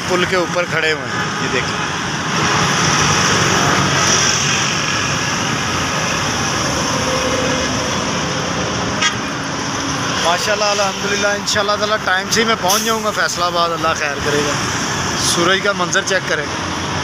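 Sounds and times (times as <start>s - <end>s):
highway traffic noise: 0.0s - 17.0s.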